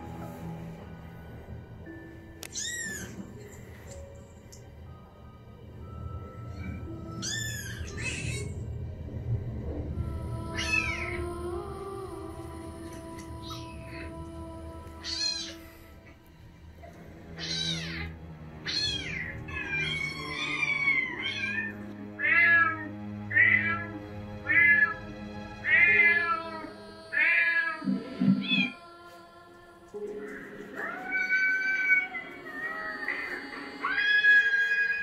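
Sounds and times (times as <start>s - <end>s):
slow eerie background music: 0.0s - 35.0s.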